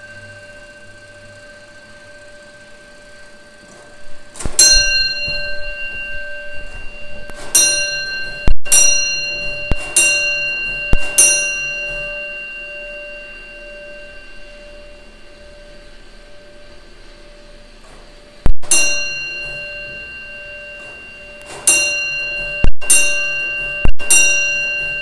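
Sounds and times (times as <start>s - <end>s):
fire alarm bell strokes: 0.0s - 25.0s.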